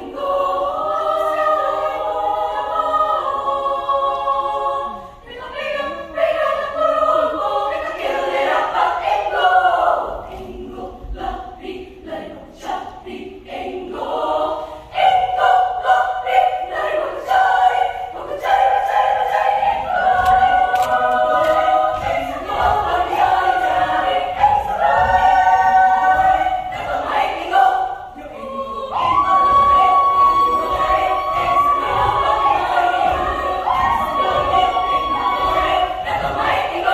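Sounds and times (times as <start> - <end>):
children's choir singing: 0.0 - 36.9.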